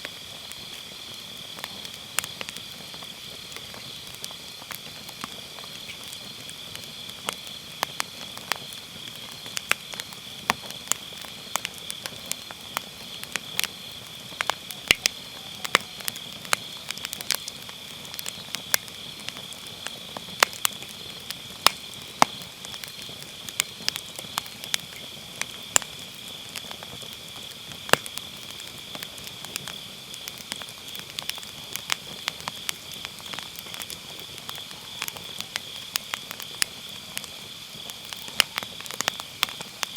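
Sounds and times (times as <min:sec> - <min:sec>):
campfire crackling and popping: 0:00.0 - 0:39.9
insects chirring: 0:00.0 - 0:39.9.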